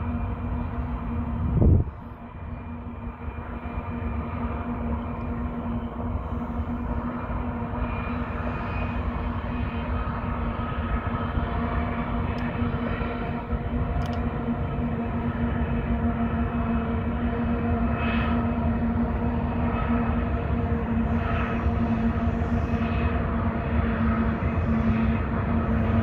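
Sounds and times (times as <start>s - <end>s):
distant diesel locomotives rumbling: 0.0s - 26.0s.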